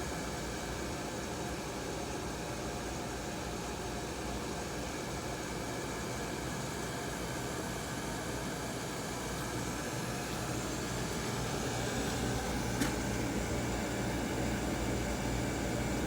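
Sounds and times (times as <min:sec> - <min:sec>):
mechanical hum and hiss: 0:00.0 - 0:16.0.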